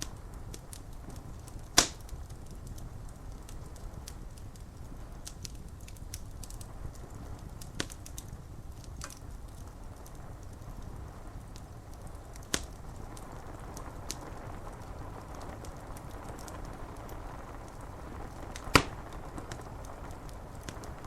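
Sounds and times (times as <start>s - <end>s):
rain rushing: 0.0s - 21.0s
wood fire crackling: 0.0s - 21.0s.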